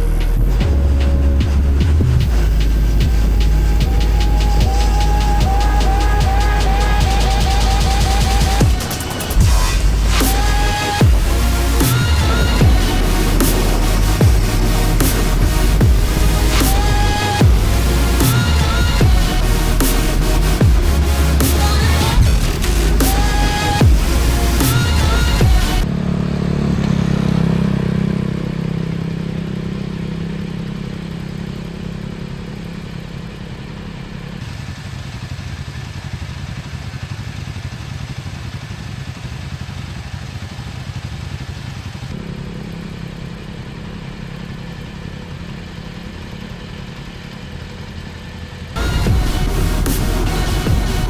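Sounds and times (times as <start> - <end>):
motorcycle engine running: 0.0 - 51.0
road and wind noise: 0.0 - 51.0.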